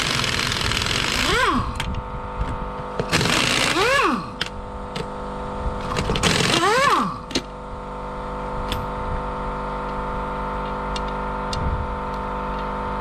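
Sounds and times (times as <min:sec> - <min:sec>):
motor running steadily: 0:00.0 - 0:13.0.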